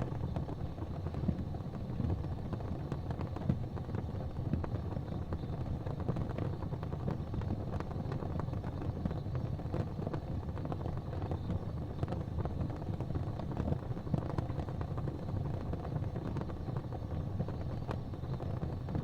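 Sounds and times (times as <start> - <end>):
fire burning in a fireplace: 0.0 - 19.0.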